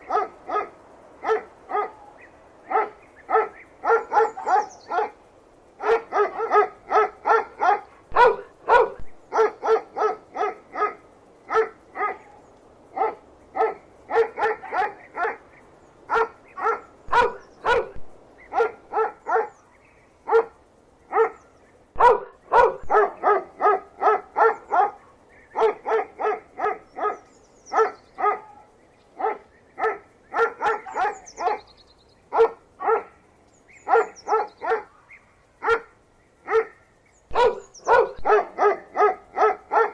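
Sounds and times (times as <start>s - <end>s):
dog barking: 0.0s - 5.2s, 5.8s - 15.4s, 16.1s - 19.6s, 20.2s - 21.4s, 22.0s - 31.6s, 32.3s - 33.2s, 33.8s - 35.0s, 35.6s - 35.9s, 36.5s - 39.9s.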